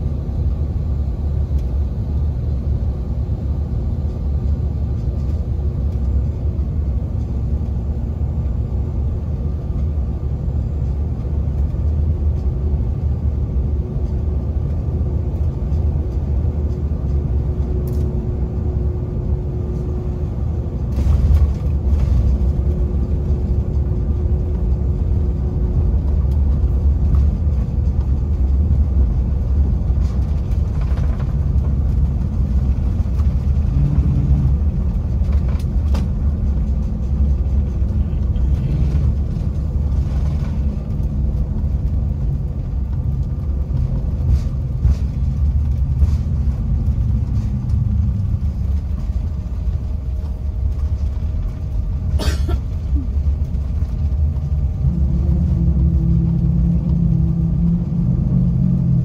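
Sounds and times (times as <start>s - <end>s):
aircraft cabin rumble: 0.0s - 59.0s.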